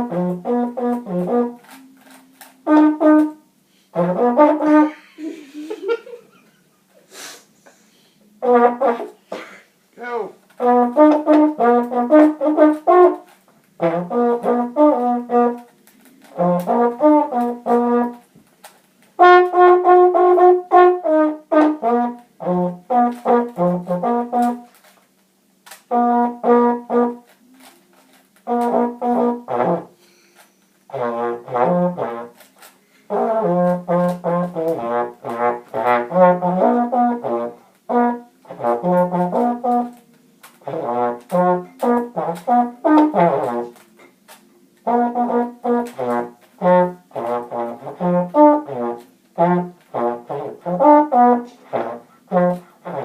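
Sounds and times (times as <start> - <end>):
trombone playing choppy notes: 0.0 - 5.4, 8.3 - 9.3, 10.0 - 18.3, 19.1 - 24.9, 25.6 - 30.0, 30.8 - 53.0.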